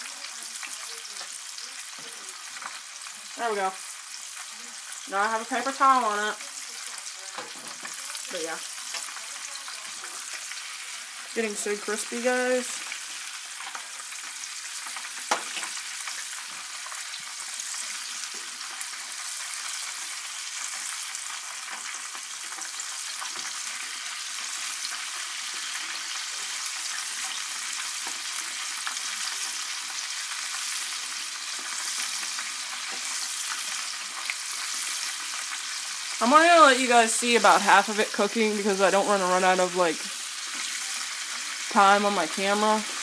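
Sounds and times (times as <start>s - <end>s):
chicken deep-frying in oil: 0.0s - 43.0s.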